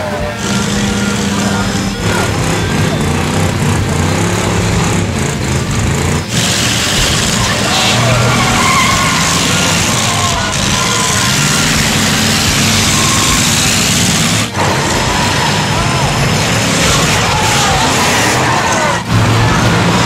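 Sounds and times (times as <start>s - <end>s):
race car engines revving: 0.0s - 20.0s
track noise: 0.0s - 20.0s.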